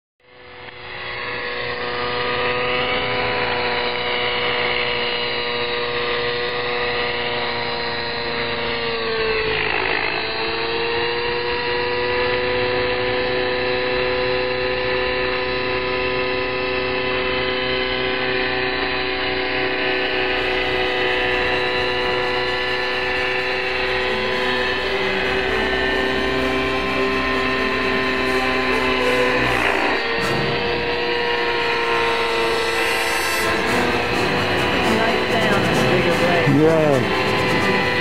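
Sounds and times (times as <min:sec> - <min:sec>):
model helicopter whine: 0:00.2 - 0:38.0.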